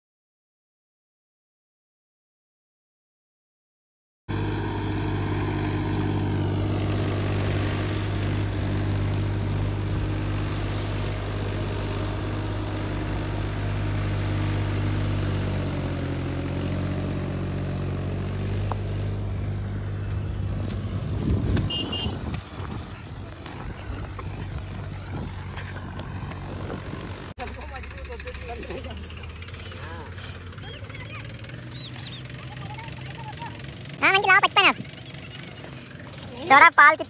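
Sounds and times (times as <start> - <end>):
tractor diesel engine running: 4.3 - 37.0.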